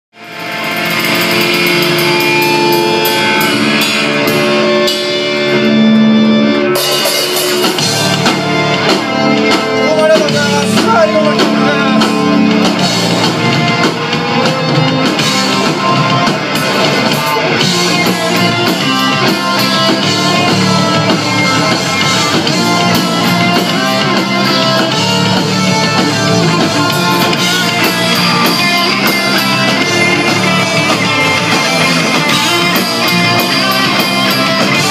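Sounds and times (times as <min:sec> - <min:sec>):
live rock band playing: 0:00.1 - 0:34.9.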